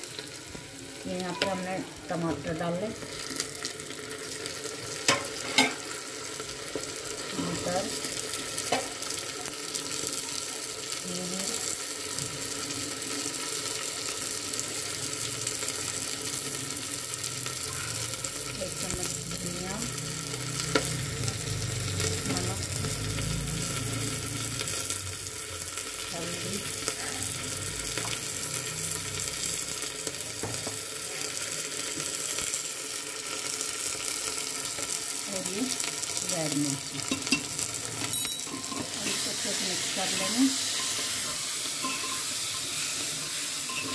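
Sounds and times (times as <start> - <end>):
vegetables sizzling in hot oil: 0.0 - 43.9.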